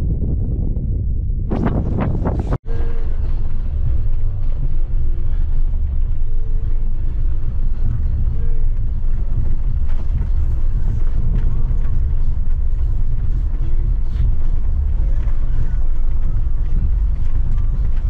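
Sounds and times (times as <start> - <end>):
engine and tyre rumble: 0.0 - 18.0
wind buffeting microphone: 0.0 - 18.0.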